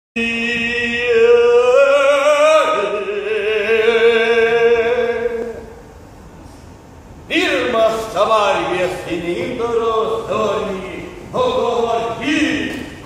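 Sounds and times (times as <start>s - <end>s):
man singing held notes with vibrato: 0.2s - 6.0s, 7.3s - 13.0s.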